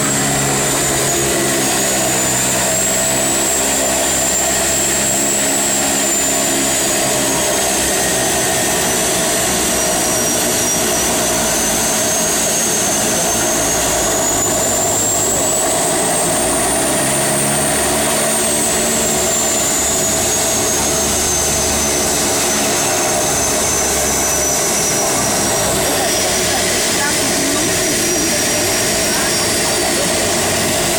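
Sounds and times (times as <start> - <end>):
turboprop engines droning: 0.0 - 30.9.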